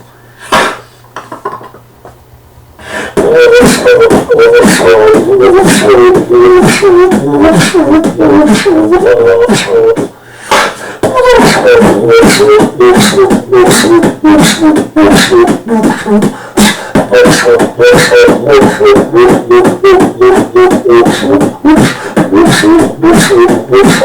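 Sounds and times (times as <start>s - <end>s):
beatboxing mouth percussion: 0.0s - 1.6s, 2.8s - 24.0s.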